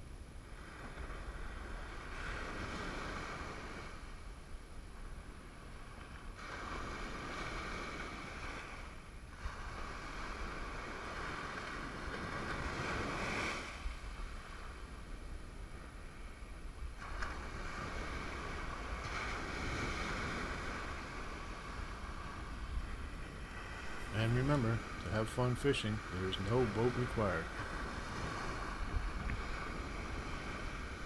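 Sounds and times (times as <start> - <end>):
waves breaking on beach: 0.0 - 31.0
wind rumble on microphone: 0.0 - 31.0.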